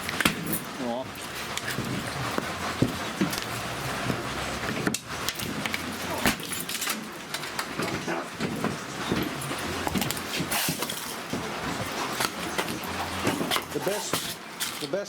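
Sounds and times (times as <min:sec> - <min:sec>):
broken plastic and metal clattering: 0:00.0 - 0:15.0.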